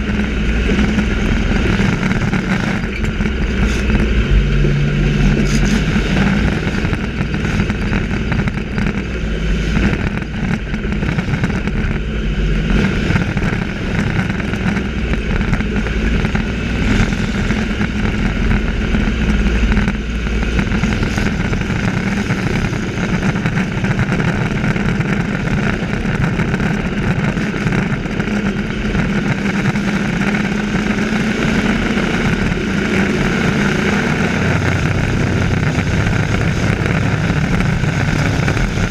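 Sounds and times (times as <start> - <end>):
race truck engines passing: 0.0 - 26.0, 26.9 - 38.9.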